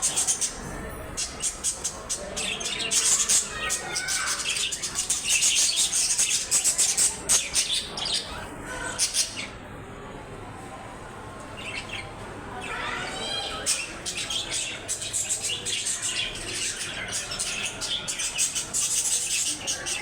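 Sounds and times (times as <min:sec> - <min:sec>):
small birds chirping: 0:00.0 - 0:09.5, 0:11.6 - 0:20.0.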